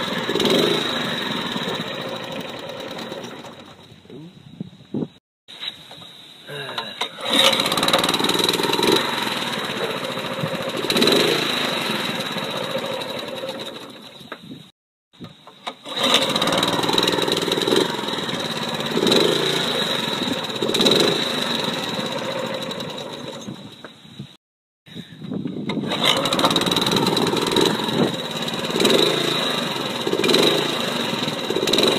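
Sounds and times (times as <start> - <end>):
lawn mower engine running: 0.0 - 4.1, 7.0 - 14.4, 15.6 - 23.8, 25.6 - 31.9.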